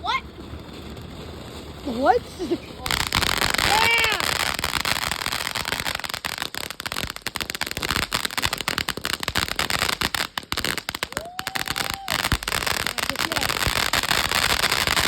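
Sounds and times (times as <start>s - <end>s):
firework crackling pops: 0.0s - 15.0s.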